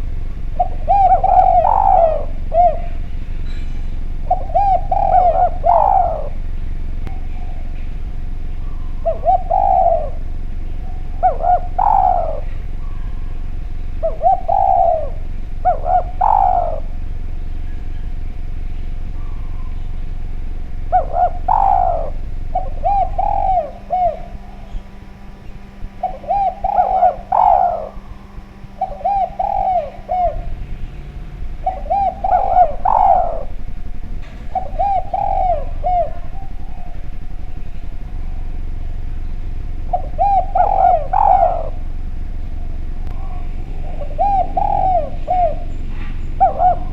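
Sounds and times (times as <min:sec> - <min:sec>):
dove cooing: 0:00.0 - 0:46.9
steady low hum: 0:00.0 - 0:46.9.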